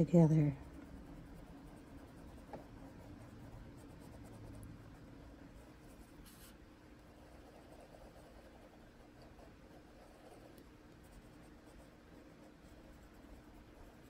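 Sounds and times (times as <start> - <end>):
pencil scratching on paper: 0.4 - 14.0.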